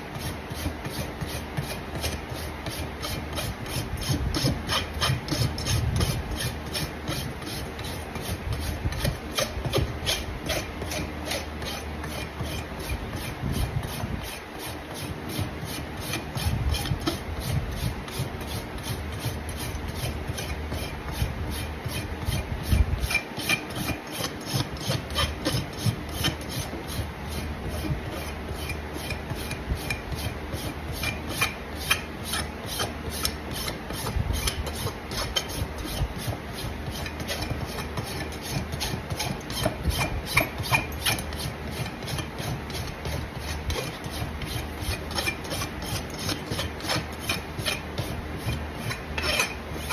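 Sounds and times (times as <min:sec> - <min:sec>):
rasp filing a hoof: 0:00.0 - 0:49.9.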